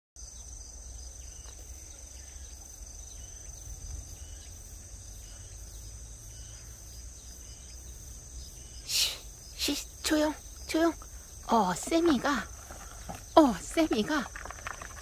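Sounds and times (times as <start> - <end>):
trilling insects chorus: 0.2 - 15.0.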